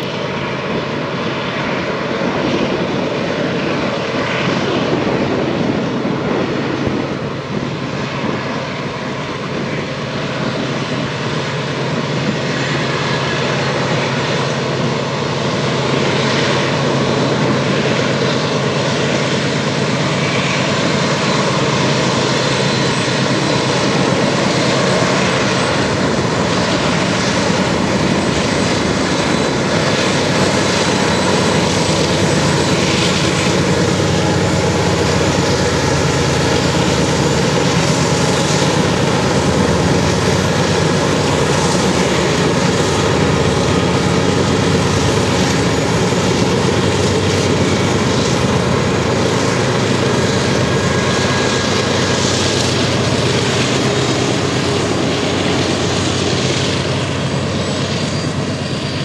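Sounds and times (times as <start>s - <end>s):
diesel locomotives rumbling: 0.0s - 59.0s.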